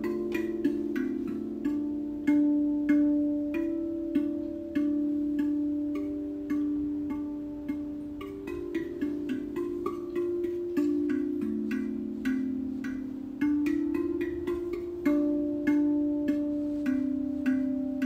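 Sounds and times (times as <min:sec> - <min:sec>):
light instrumental tune: 0:00.0 - 0:18.0.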